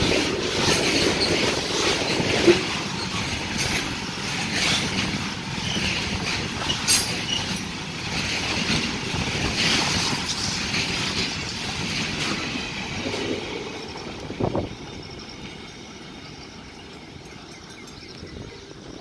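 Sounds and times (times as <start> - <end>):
freight wagons rolling on rails: 0.0 - 19.0.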